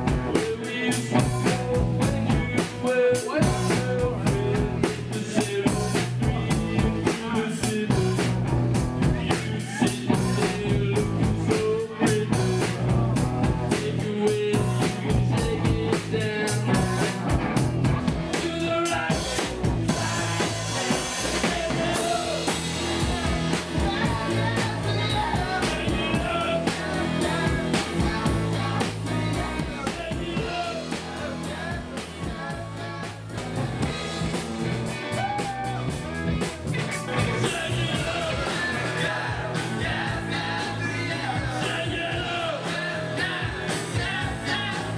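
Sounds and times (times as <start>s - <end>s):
person singing: 0.0s - 17.5s, 18.1s - 34.0s, 34.9s - 44.9s
drum kit: 0.0s - 44.9s
guitars and bass: 0.0s - 44.9s.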